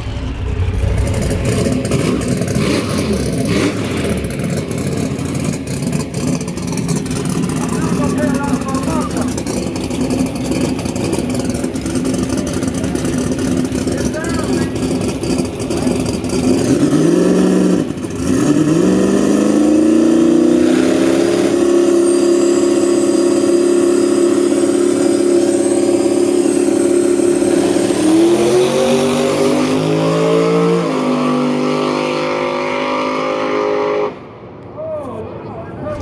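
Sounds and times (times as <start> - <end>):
truck engine revving: 0.0 - 34.3
drag truck accelerating: 0.0 - 34.7.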